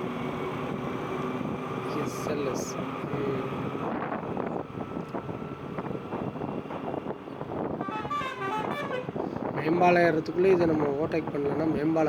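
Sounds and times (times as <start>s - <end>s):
road noise: 0.0s - 12.0s
wind rushing over microphone: 0.0s - 12.0s.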